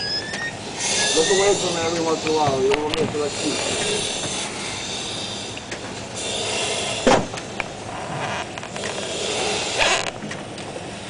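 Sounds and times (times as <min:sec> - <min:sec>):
steady hissing noise: 0:00.5 - 0:11.0.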